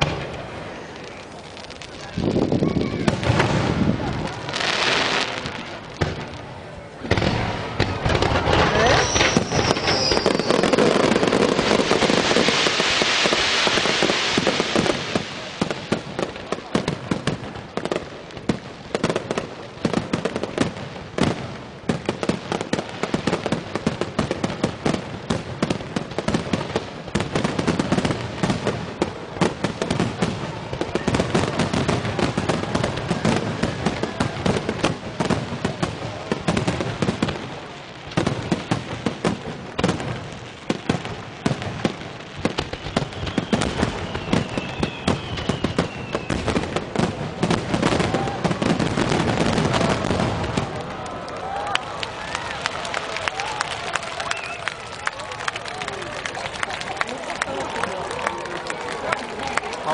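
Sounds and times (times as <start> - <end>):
fireworks hissing rush: 0.0 - 52.5
fireworks crackling and popping: 0.0 - 59.9.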